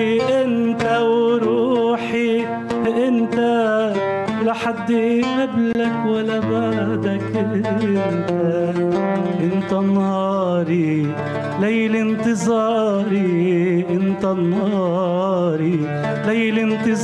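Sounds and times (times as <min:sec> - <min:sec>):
man singing: 0:00.0 - 0:17.0
oud plucked notes: 0:00.0 - 0:17.0.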